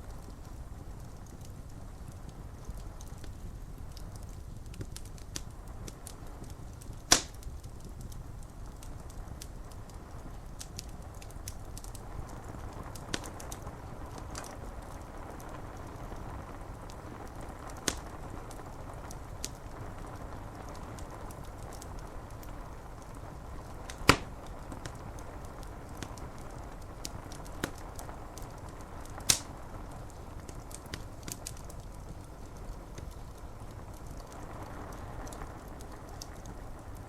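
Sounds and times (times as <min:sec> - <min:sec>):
soft rush of rain: 0:00.0 - 0:37.0
wood fire crackling and popping: 0:00.0 - 0:37.0.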